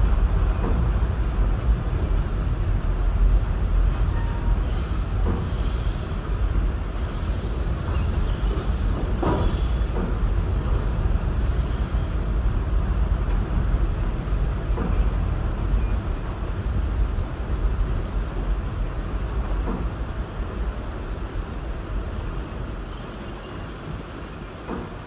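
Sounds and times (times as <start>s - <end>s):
freight train rumbling over bridge: 0.0s - 25.0s.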